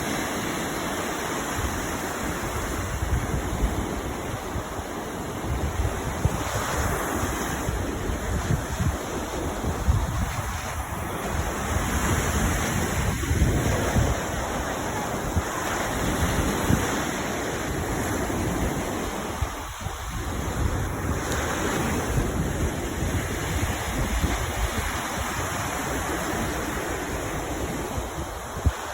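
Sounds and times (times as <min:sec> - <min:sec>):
sea waves washing in: 0:00.0 - 0:28.9
wind buffeting microphone: 0:00.0 - 0:28.9.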